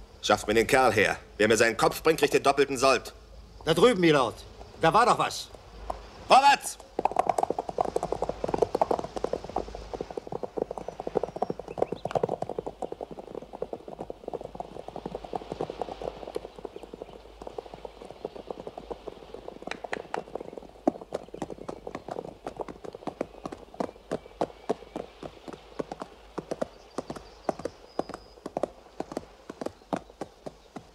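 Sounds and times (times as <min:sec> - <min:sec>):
horses hooves clip-clopping: 0:03.6 - 0:30.9.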